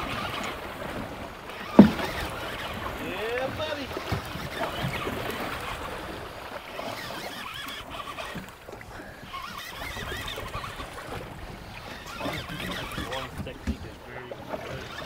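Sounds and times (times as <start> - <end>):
water sloshing against boat: 0.0 - 15.0
wind: 0.0 - 15.0.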